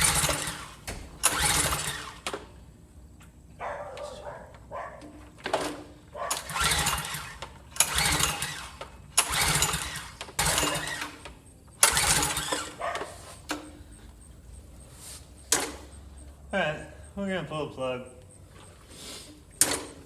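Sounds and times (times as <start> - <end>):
recoil starter pulls: 0.0 - 3.4, 4.0 - 20.0
engine cranking without firing: 0.0 - 20.0.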